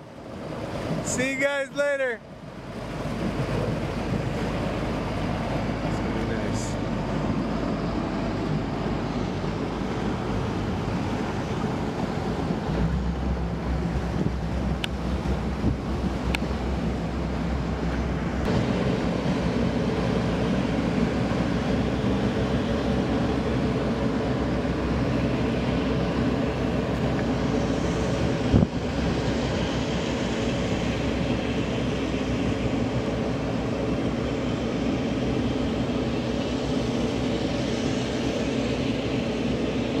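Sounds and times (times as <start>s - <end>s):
boat engine running: 0.0s - 40.0s
wind noise: 2.6s - 40.0s.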